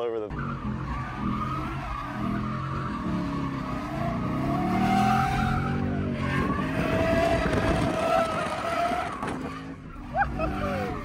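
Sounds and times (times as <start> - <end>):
car engine revving: 0.3 - 11.0.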